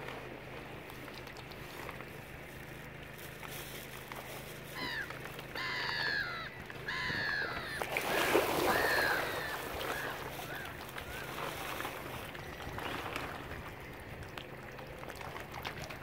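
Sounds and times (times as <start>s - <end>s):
gulls calling: 0.4s - 15.0s.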